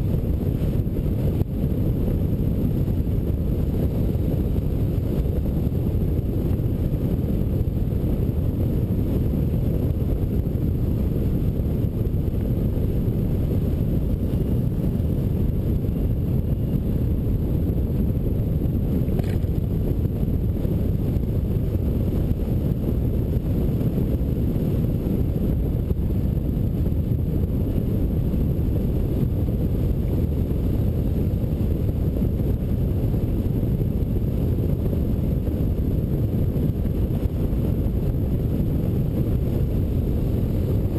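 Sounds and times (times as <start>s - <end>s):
airflow rushing over hang glider: 0.0s - 40.9s
wind buffeting microphone: 0.0s - 40.9s.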